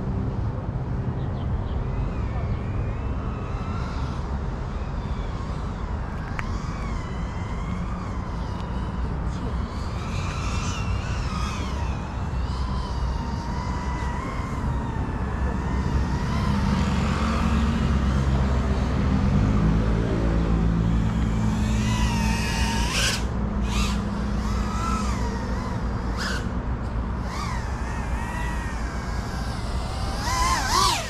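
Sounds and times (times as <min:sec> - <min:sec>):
drone motors whining: 0:00.0 - 0:31.0
low hum: 0:00.0 - 0:31.0.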